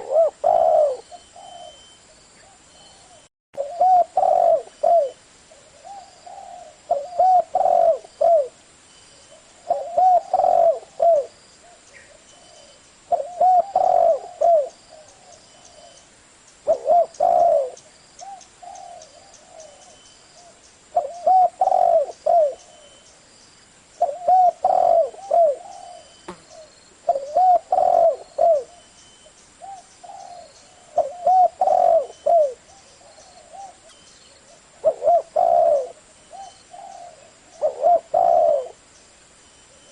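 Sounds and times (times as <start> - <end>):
dove cooing: 0.0 - 8.6, 9.3 - 16.0, 16.6 - 23.0, 24.0 - 28.9, 29.6 - 38.8.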